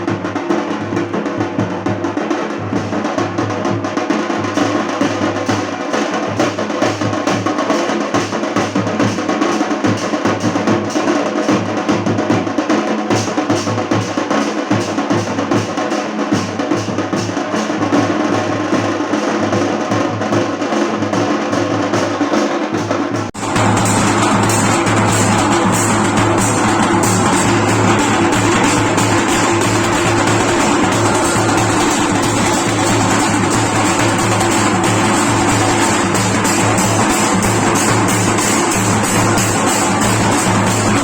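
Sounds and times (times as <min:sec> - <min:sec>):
street band drums: 0:00.0 - 0:41.0.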